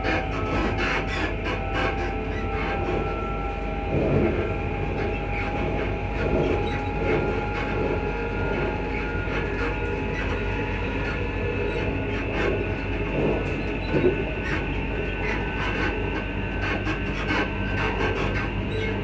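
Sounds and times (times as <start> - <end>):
traction motor whine: 0.0 - 19.0
train wheels clattering on track: 0.0 - 19.0.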